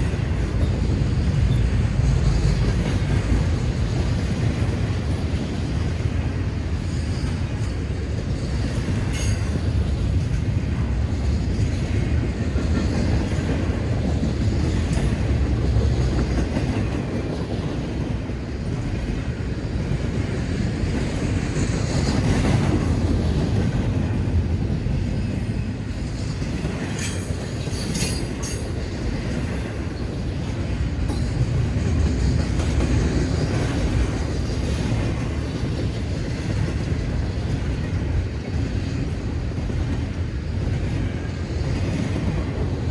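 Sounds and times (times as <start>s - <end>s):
train rolling past: 0.0s - 42.9s
train squeals and clanks: 0.0s - 42.9s.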